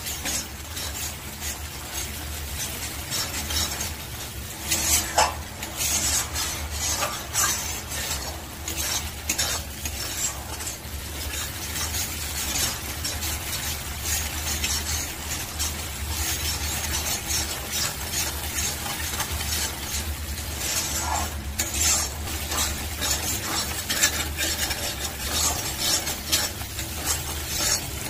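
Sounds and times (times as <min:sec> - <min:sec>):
spatula scraping in a wok: 0:00.0 - 0:28.0
spice paste sizzling in oil: 0:00.0 - 0:28.0.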